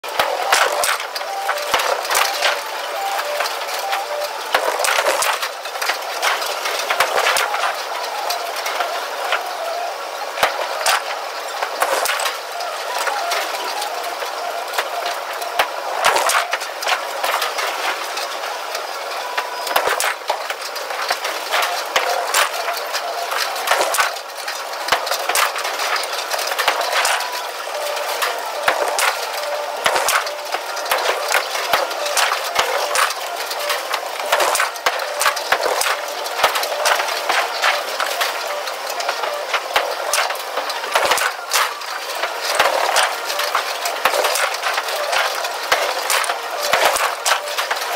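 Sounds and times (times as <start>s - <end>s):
rolling balls and machinery din: 0.0s - 47.9s.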